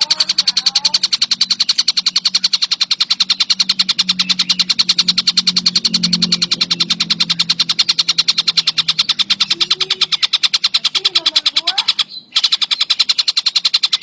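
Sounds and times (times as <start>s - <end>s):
low steady hum: 0.0s - 12.4s
kingfisher trilling: 0.0s - 14.0s.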